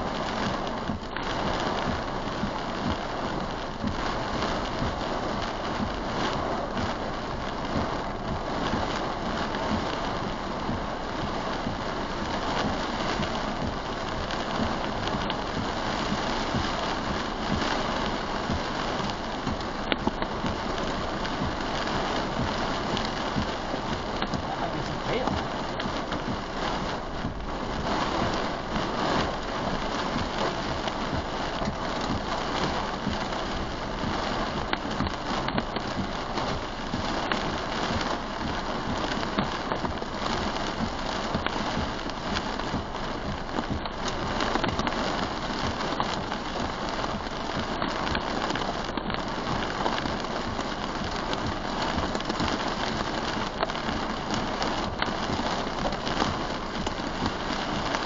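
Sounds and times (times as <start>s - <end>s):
heavy rain on vehicle roof: 0.0s - 58.0s.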